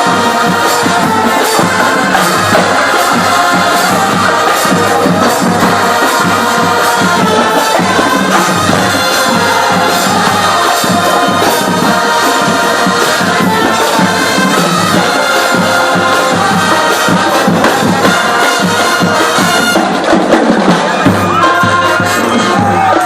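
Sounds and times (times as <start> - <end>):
brass bugles holding notes: 0.0 - 23.0
marching drum strokes: 0.0 - 23.0.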